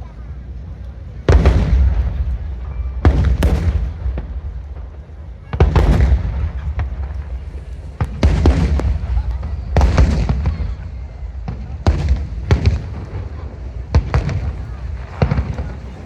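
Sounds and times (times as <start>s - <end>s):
fireworks bursting with bangs: 1.2s - 16.0s
rumbling echo: 1.2s - 16.0s.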